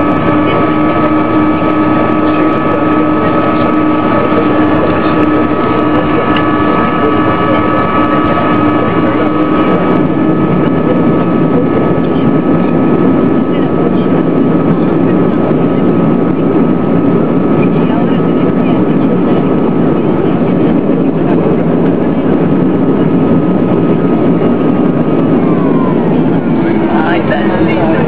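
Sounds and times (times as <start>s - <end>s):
jet engine whine: 0.0s - 28.0s
loud rushing noise: 0.0s - 28.0s
thrust reverser rumble: 0.0s - 28.0s.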